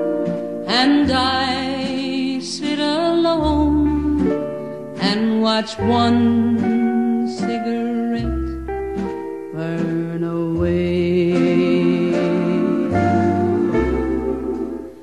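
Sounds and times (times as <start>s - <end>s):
song with guitar and bass: 0.0s - 15.0s.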